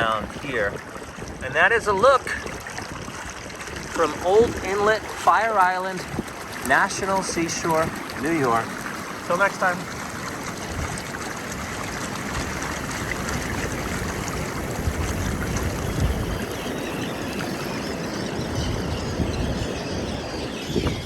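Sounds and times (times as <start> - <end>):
water rushing through surf: 0.0 - 21.0
wind rumble on microphone: 0.0 - 21.0.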